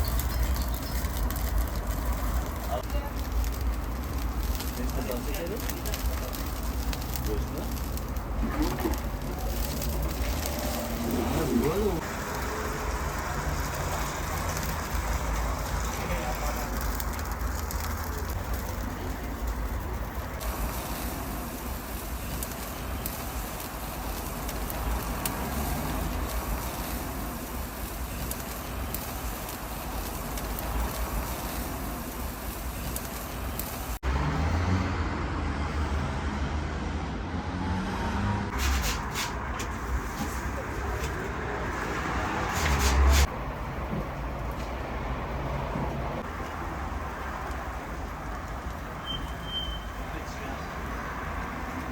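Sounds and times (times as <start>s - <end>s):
traffic rumble and hiss: 0.0s - 51.9s.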